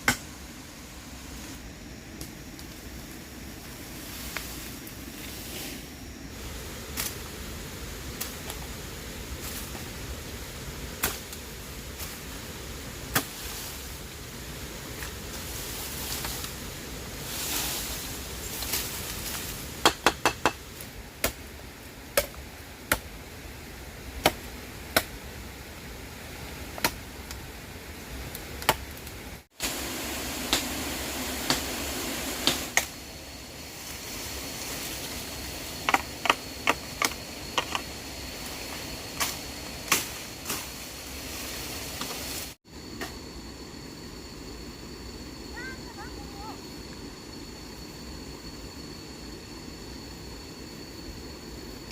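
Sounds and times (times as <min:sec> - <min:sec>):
steady background hiss: 0:00.0 - 0:51.9.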